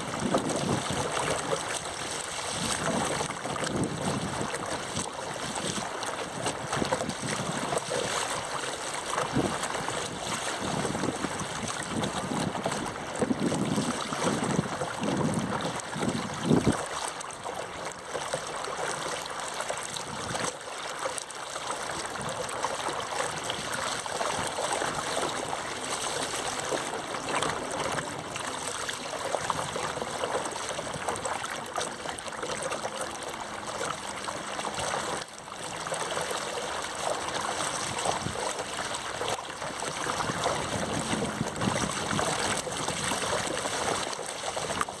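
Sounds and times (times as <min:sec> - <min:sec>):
water rushing and splashing: 0:00.0 - 0:45.0.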